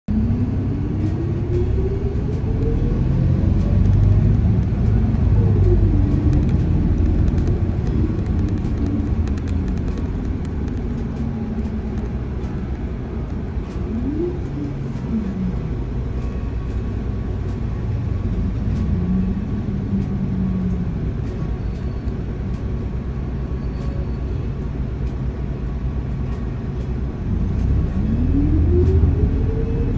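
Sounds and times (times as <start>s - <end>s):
bus engine and road rumble: 0.0s - 29.9s
drivetrain whine: 0.1s - 29.9s.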